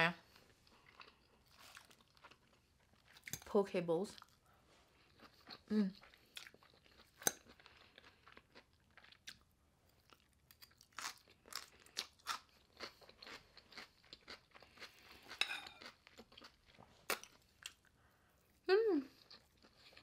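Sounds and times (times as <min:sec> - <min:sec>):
chewing raw vegetables: 0:00.3 - 0:03.5, 0:04.1 - 0:18.0.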